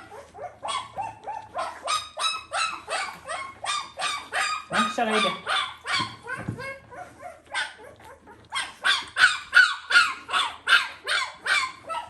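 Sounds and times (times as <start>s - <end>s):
puppy yelping: 0.0s - 12.0s.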